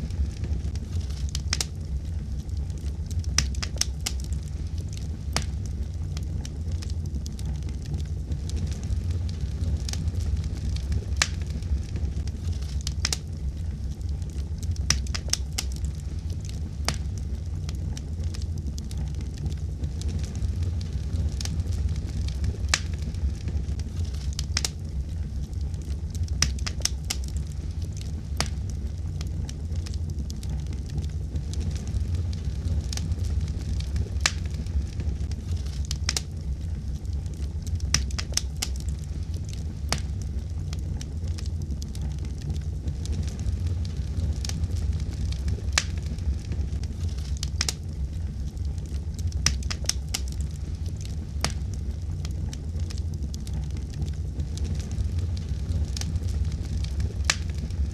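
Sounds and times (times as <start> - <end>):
fire crackling and popping: 0.0 - 57.9
steady low rumble: 0.0 - 57.9.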